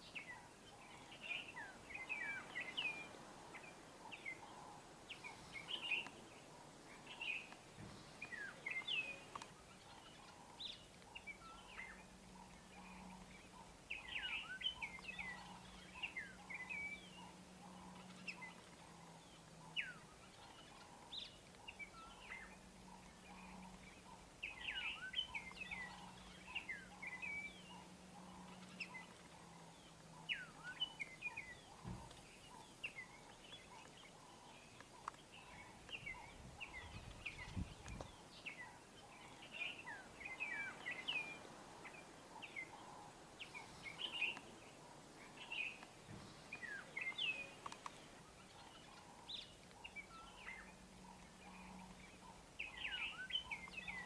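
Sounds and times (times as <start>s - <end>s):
faint low hum: 0.0s - 54.0s
small birds chirping: 0.0s - 54.0s.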